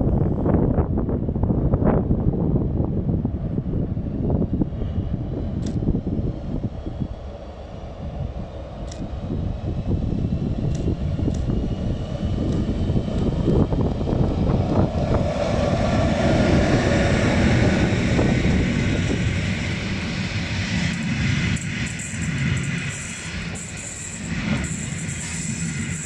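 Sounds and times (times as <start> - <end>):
wheels rumbling on rails: 0.0 - 26.0
electric locomotive running: 0.1 - 26.0.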